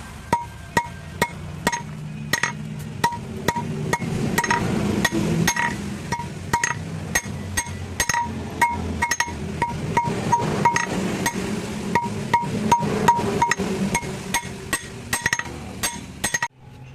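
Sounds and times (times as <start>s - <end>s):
hammer striking metal: 0.0s - 16.5s
low steady hum: 0.0s - 16.9s.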